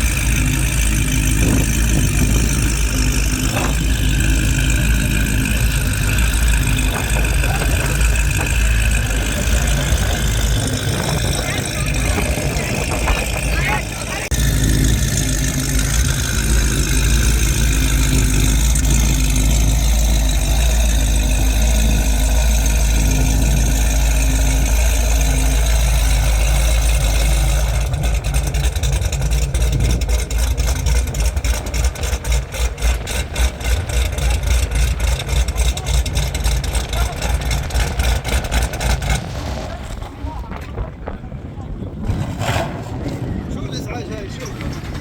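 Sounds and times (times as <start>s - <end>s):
car engine running loudly: 0.0s - 45.0s
voices: 0.0s - 45.0s.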